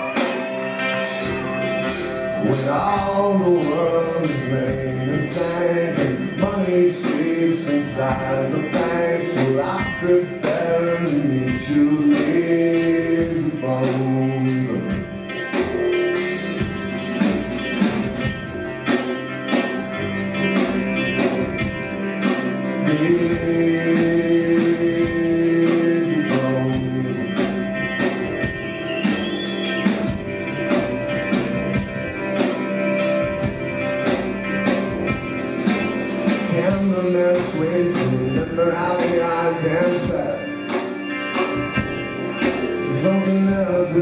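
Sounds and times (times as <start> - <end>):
live rock band playing: 0.0 - 44.0.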